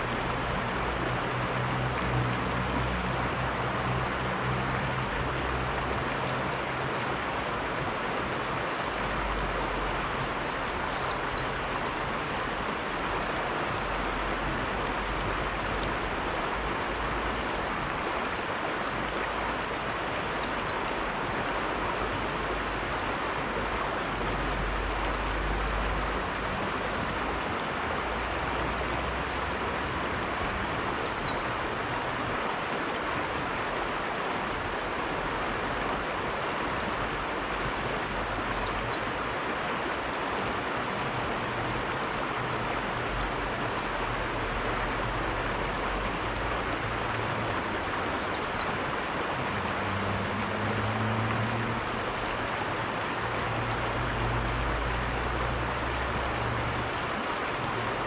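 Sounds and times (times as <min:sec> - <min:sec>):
river water running over rocks: 0:00.0 - 0:58.0.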